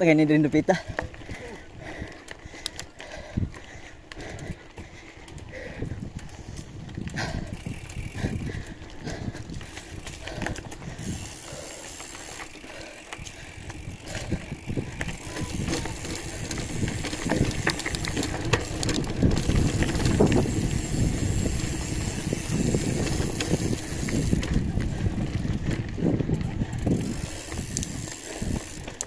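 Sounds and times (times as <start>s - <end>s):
bicycle tyres rolling over rough ground: 0.0s - 29.0s
bike rattles and clicks: 0.0s - 29.0s.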